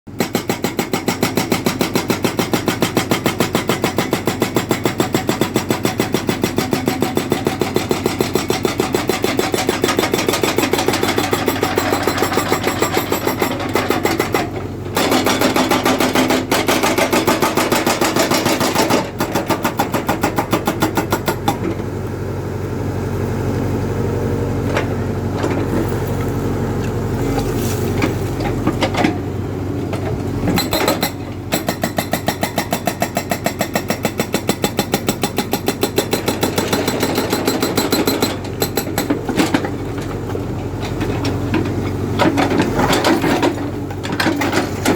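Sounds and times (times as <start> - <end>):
excavator pounding: 0.1 - 22.0, 24.5 - 44.9
excavator engine drone: 1.4 - 44.9.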